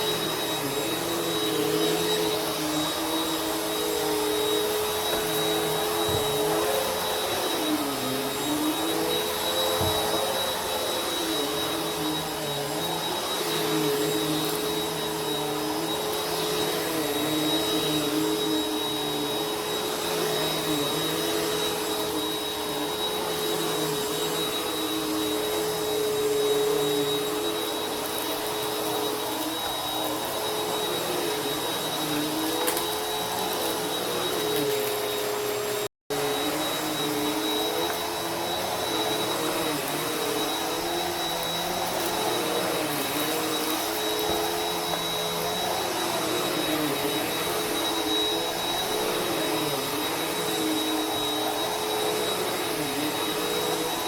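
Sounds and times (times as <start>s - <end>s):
vacuum cleaner motor whining: 0.0s - 54.0s.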